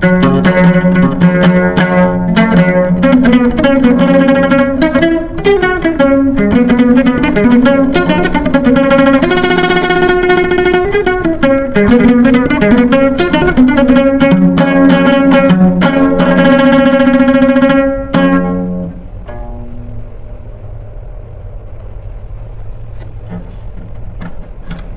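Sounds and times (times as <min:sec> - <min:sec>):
plucked string instrument music: 0:00.0 - 0:24.9.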